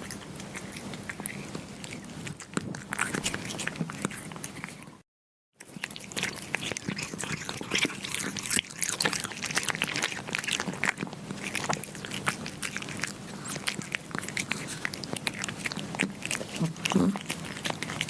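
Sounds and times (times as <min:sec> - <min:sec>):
kittens chewing meat: 0:00.0 - 0:18.0.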